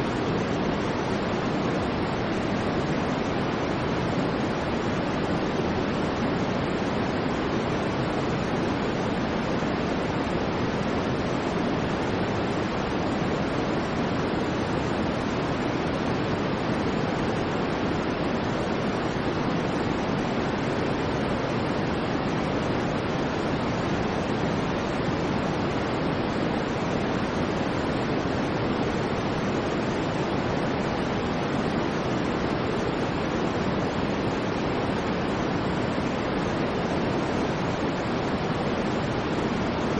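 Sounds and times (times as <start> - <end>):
white noise: 0.0 - 39.9.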